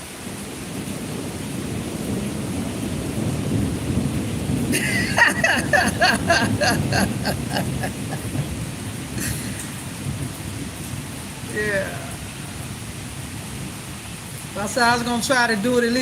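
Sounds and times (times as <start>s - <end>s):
low rumble of thunder: 0.0s - 15.6s
steady rain: 0.0s - 16.0s.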